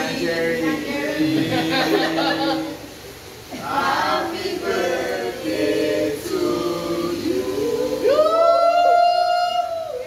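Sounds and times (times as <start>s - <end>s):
group singing a birthday song together: 0.0s - 8.9s.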